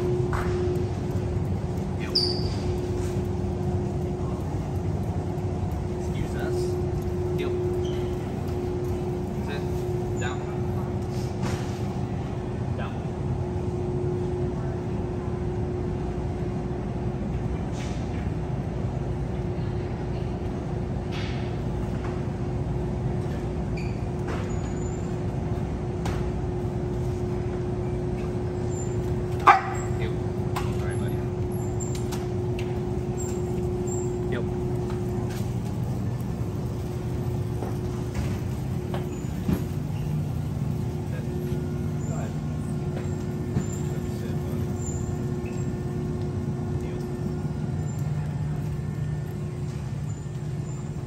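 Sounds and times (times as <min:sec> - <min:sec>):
freezer and ventilation hum: 0:00.0 - 0:51.0.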